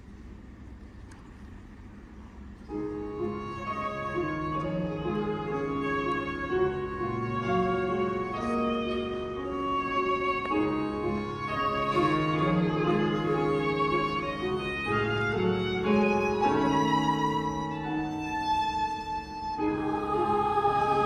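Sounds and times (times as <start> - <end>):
piano accompaniment: 2.7 - 21.0
violin slow melody: 2.8 - 21.0.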